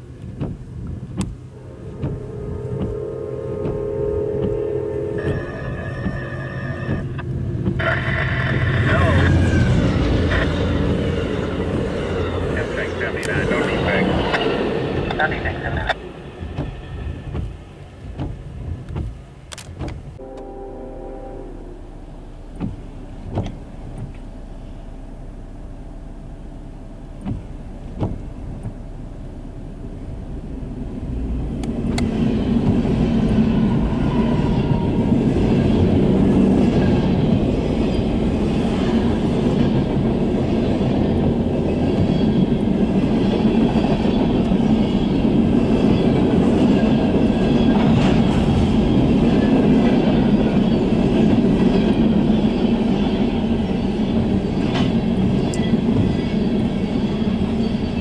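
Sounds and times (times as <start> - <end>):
wheels rolling on rails: 0.0 - 20.2, 29.9 - 58.0
freight train passing: 0.0 - 58.0.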